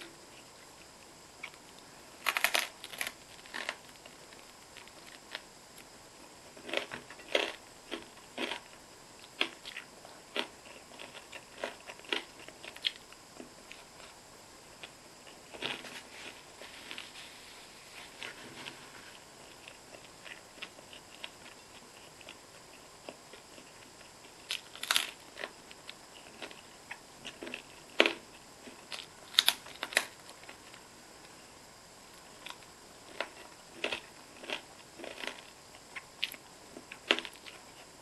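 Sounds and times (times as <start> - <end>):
chewing crunchy food: 0.0 - 17.1, 18.0 - 30.8, 32.2 - 38.0.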